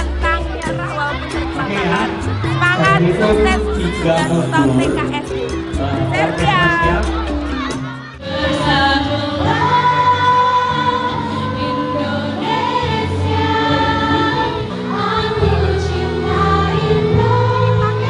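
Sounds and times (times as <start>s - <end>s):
instrumental backing: 0.0s - 18.0s
group singing long notes: 0.1s - 18.0s.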